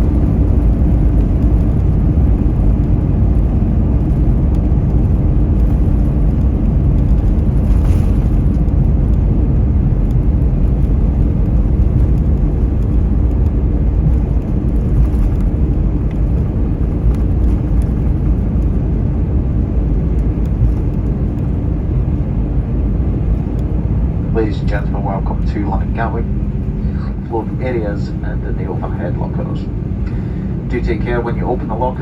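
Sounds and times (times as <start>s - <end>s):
aircraft cabin rumble: 0.0s - 32.0s.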